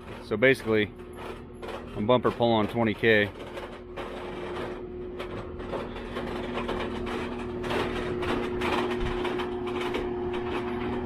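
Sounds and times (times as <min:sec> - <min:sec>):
rough rattling and scraping: 0:00.0 - 0:11.0
skid steer engine running: 0:00.0 - 0:11.0.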